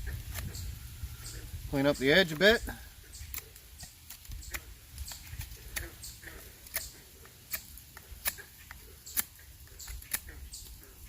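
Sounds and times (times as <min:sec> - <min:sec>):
axe strokes shaving wood: 0:01.7 - 0:11.0.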